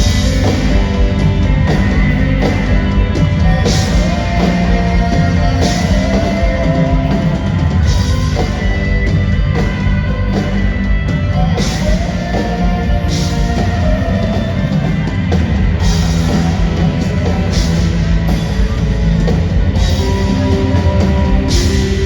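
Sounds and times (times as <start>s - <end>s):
live rock band playing loud: 0.0s - 22.0s.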